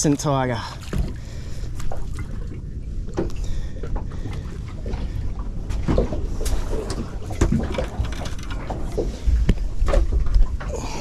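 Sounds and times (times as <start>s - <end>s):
knocks and clatter against boat: 0.0s - 11.0s
sea: 0.0s - 11.0s
wind: 0.0s - 11.0s.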